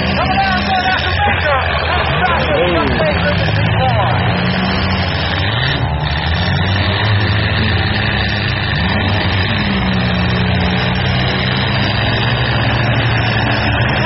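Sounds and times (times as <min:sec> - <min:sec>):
car engines running loud: 0:00.0 - 0:14.0
engine revving: 0:00.0 - 0:14.0.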